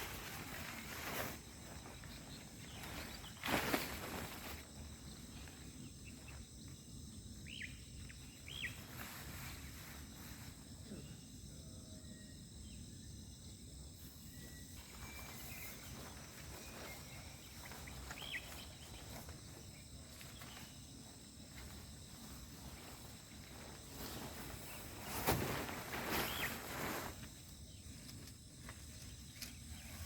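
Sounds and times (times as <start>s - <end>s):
crickets and insects trilling: 0.0s - 30.0s.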